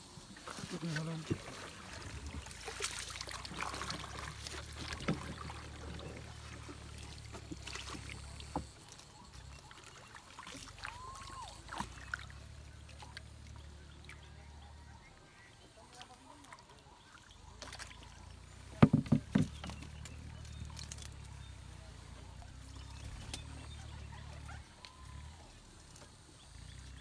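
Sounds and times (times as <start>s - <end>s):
paddle swishing and splashing water: 0.0s - 14.4s, 15.0s - 27.0s.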